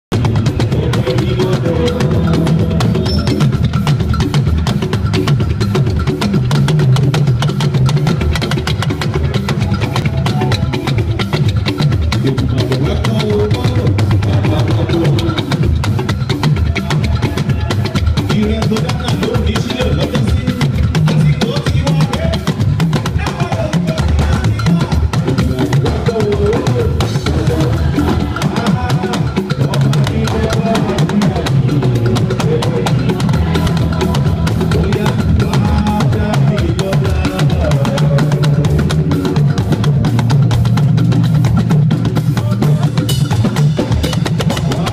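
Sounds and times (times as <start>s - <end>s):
talking drums beaten rhythmically: 0.1s - 44.9s.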